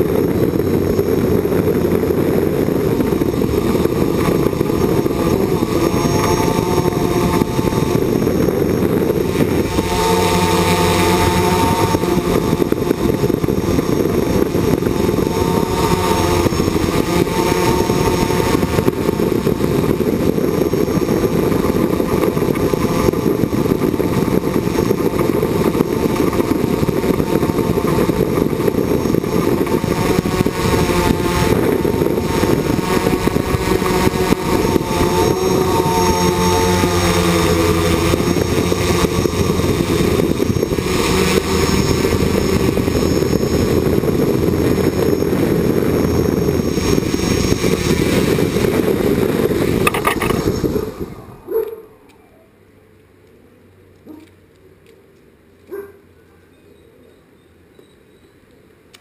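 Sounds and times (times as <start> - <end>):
drone motors and propellers whirring: 0.0 - 52.5.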